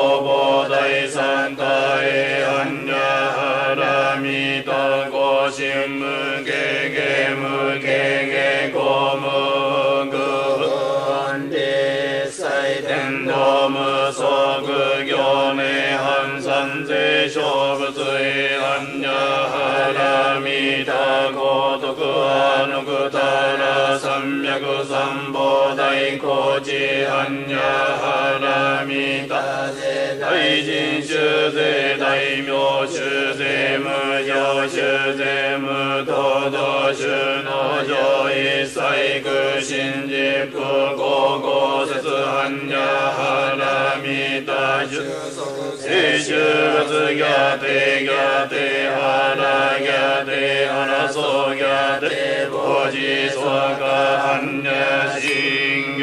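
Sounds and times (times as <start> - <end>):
person chanting in monotone: 0.0 - 56.0.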